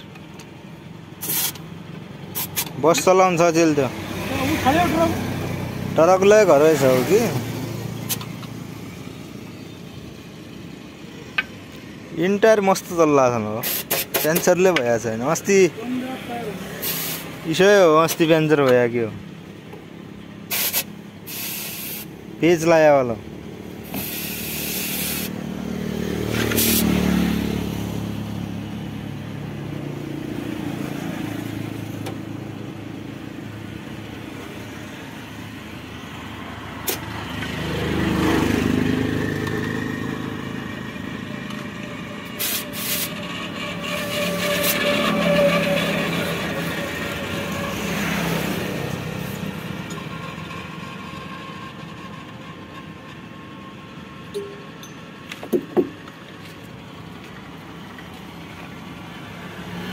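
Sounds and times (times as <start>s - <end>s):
vehicles passing by: 0.0s - 59.9s.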